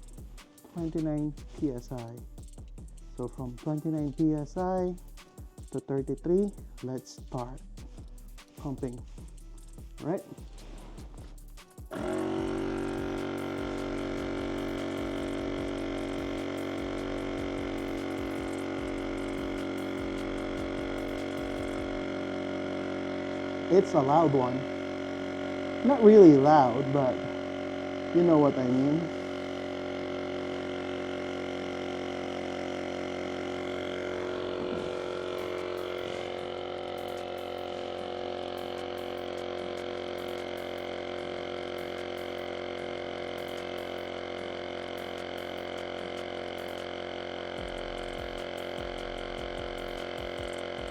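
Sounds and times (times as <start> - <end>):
tire inflator compressor humming: 0.0 - 50.9.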